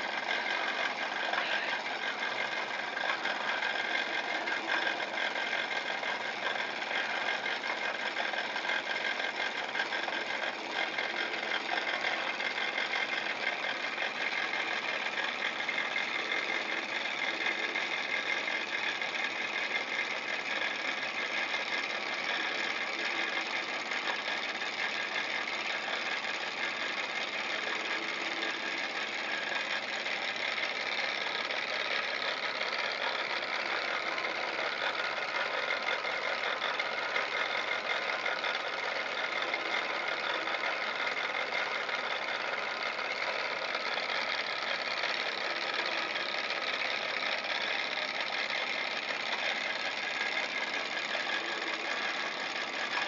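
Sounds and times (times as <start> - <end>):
model engine clatter and ticking: 0.0 - 53.0.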